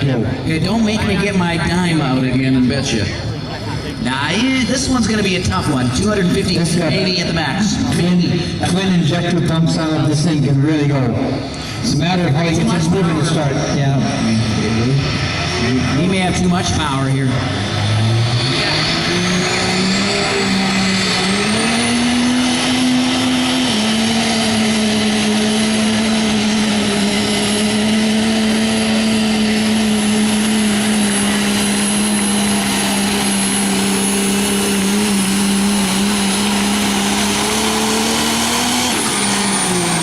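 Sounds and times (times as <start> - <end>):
diesel truck engine at full power: 0.0 - 40.0
high whine: 0.0 - 40.0.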